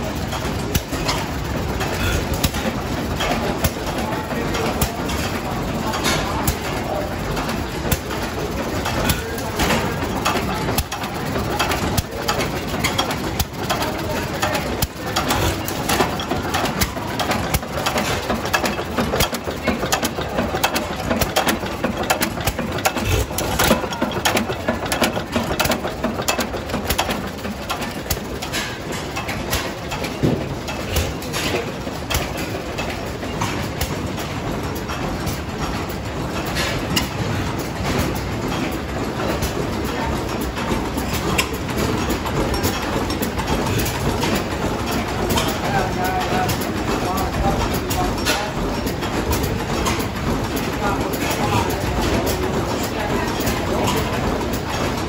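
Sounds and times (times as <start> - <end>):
sharp engine clicks and knocks: 0.0 - 55.0
stationary engine clattering: 0.0 - 55.0.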